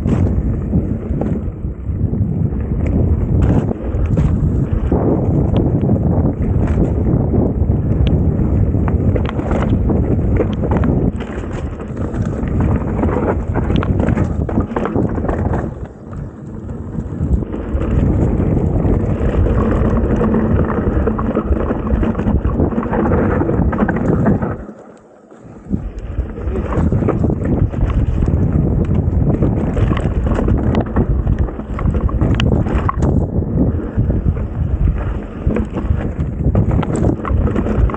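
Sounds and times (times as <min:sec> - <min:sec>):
bike rattling and knocking: 0:00.0 - 0:24.8, 0:25.7 - 0:37.9
wind buffeting microphone: 0:00.0 - 0:24.8, 0:25.4 - 0:37.9.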